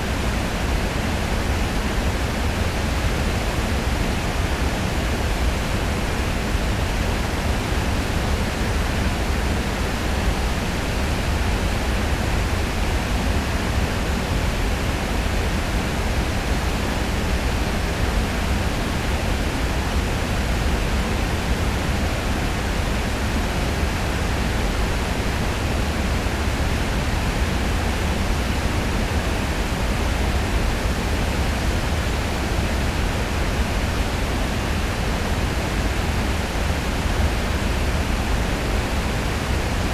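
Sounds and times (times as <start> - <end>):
river water rushing over weir: 0.0 - 39.9.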